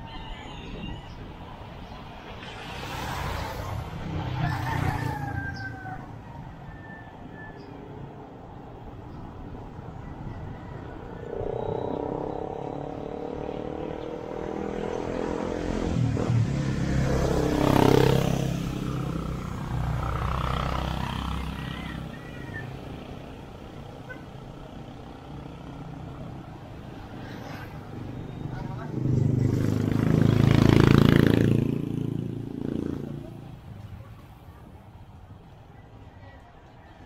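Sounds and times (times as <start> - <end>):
vehicle engine hum passing: 1.5 - 37.0.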